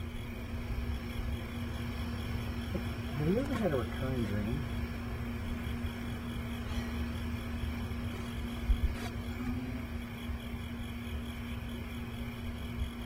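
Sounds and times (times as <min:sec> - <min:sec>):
constant low hum: 0:00.0 - 0:13.0
low background rumble: 0:00.0 - 0:13.0.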